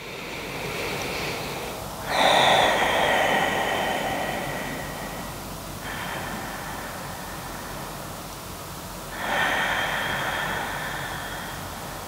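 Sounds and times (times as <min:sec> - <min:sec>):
woman breathing slowly and deeply: 0:00.0 - 0:12.0.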